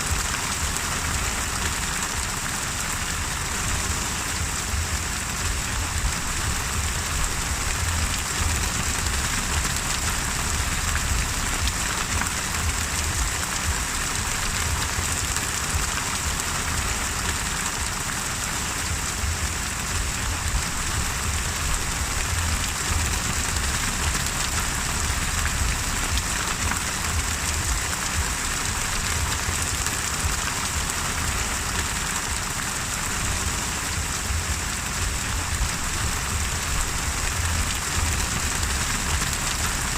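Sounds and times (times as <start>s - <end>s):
continuous low rumble: 0.0s - 39.9s
steady rain falling: 0.0s - 39.9s.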